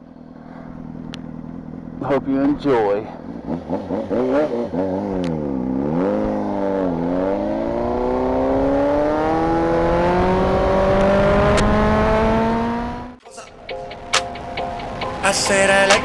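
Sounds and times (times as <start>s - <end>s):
motorcycle engine accelerating: 0.0s - 13.2s.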